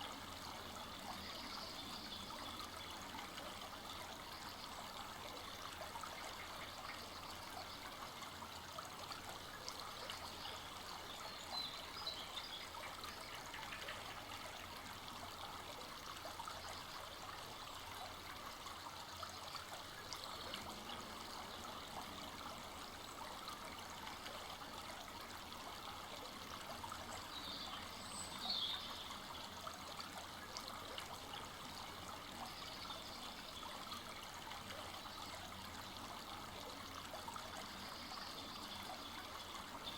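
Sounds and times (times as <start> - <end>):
brook water burbling: 0.0 - 39.9.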